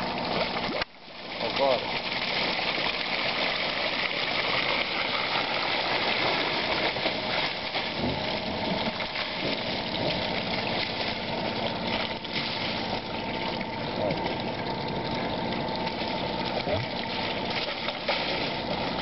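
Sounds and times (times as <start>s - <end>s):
water splashing into metal trough: 0.0s - 19.0s
motor running: 1.4s - 19.0s.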